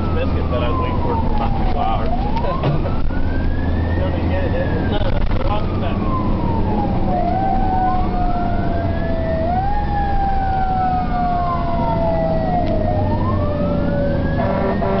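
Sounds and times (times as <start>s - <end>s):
fire truck siren wailing: 0.0s - 15.0s
steady siren tone: 0.0s - 15.0s.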